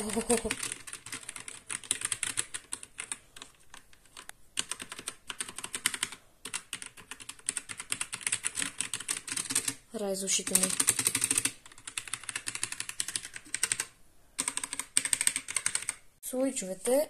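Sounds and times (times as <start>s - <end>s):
mechanical keyboard typing: 0.0s - 16.0s.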